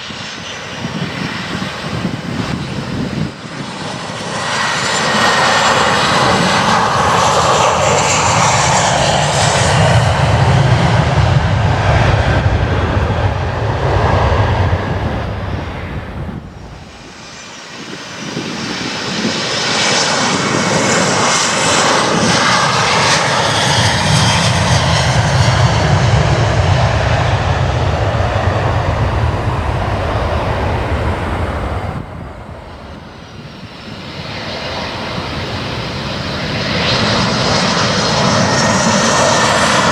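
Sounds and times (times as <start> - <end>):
faint high turbine whine: 0.0 - 39.9
jet aircraft engines: 0.0 - 39.9.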